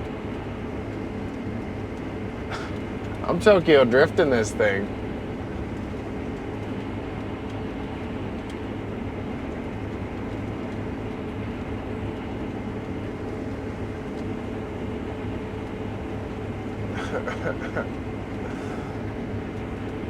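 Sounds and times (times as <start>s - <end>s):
combine engine and threshing drone: 0.0s - 20.0s.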